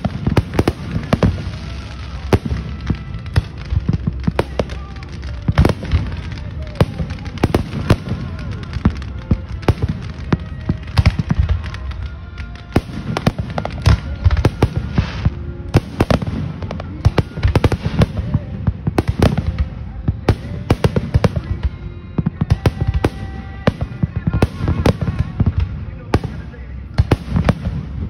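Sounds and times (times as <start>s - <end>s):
continuous low rumble: 0.0s - 28.0s
fireworks bangs: 0.0s - 28.0s.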